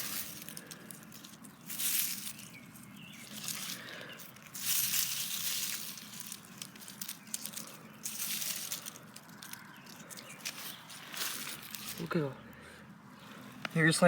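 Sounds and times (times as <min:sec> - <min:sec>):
dry vegetation rustling and crunching: 0:00.0 - 0:12.4.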